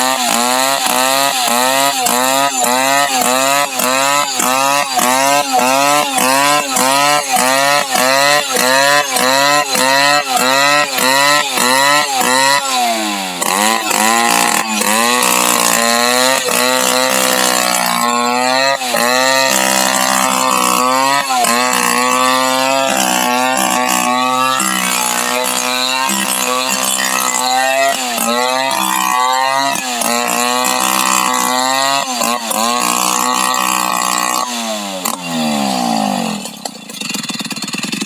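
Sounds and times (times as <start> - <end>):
chainsaw engine running hard: 0.0 - 38.0.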